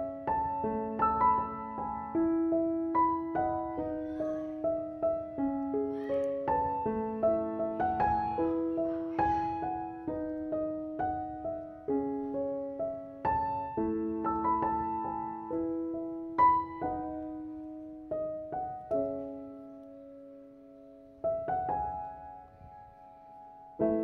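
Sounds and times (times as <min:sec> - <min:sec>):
slow gentle piano music: 0:00.0 - 0:24.0.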